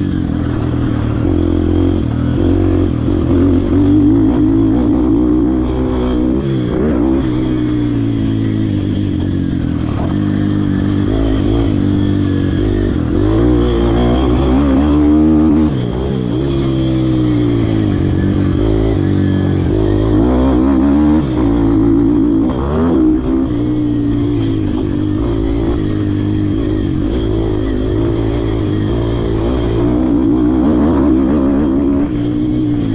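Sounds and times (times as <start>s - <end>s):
motorbike engine revving: 0.0s - 32.9s.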